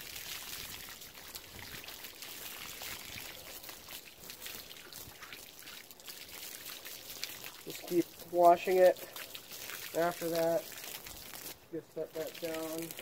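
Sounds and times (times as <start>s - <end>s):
garden hose water splashing: 0.0s - 13.0s
water dripping: 0.0s - 13.0s.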